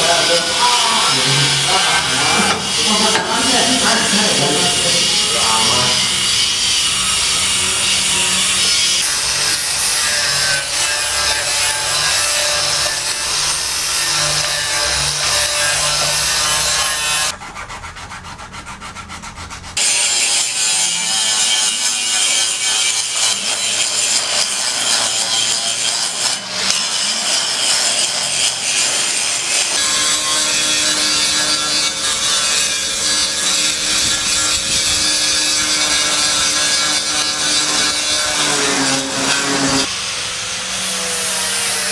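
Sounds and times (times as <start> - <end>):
harsh rasping sawing: 0.0 - 41.9.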